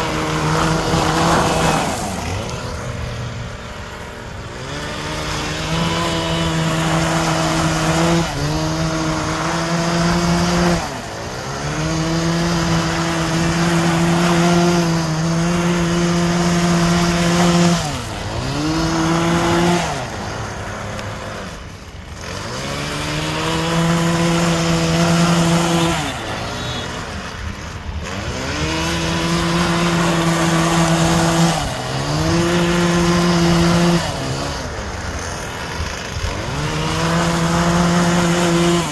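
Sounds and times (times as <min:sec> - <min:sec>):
small petrol engine revving: 0:00.0 - 0:38.9.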